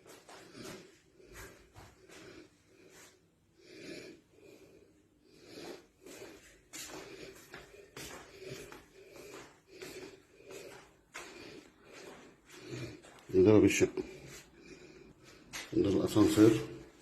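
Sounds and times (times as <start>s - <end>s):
faint breathing: 0.0s - 15.7s.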